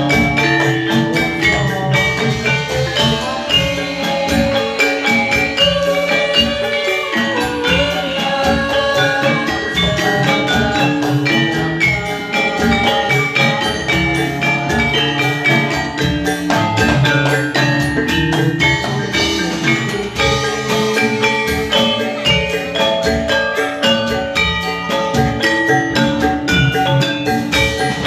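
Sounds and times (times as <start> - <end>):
gamelan music: 0.0 - 28.0.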